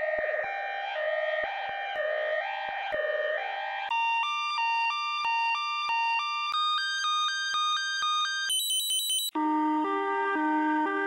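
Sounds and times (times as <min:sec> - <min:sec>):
two-tone ambulance siren: 0:00.0 - 0:11.0.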